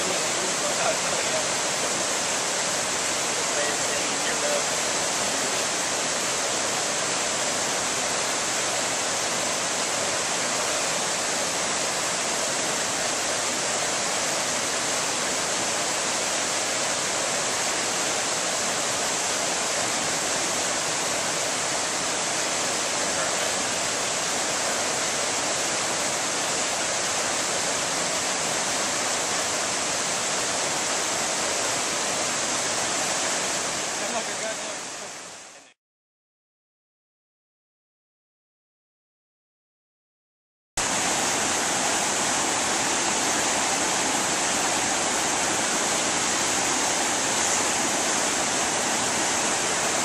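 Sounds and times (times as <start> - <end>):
river water rushing over rocks: 0.0 - 35.6, 40.8 - 50.0.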